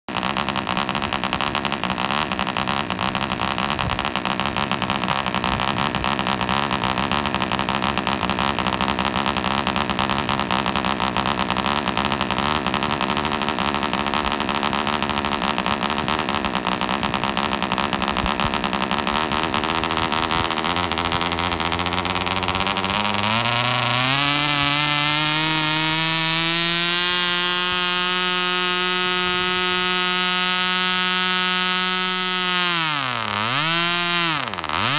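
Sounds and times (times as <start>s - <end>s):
model diesel engine with propeller: 0.1s - 34.9s.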